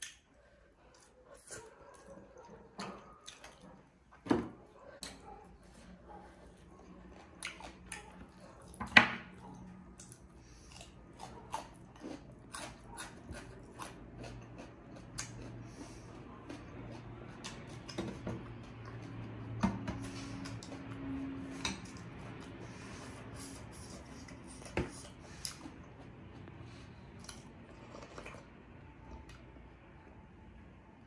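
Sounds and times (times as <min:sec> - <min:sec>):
chewing: 0:00.0 - 0:04.2, 0:04.8 - 0:29.5.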